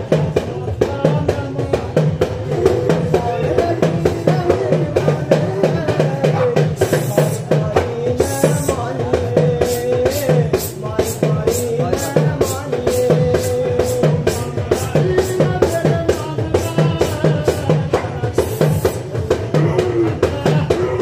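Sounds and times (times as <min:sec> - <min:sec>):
steady drum beat: 0:00.0 - 0:21.0.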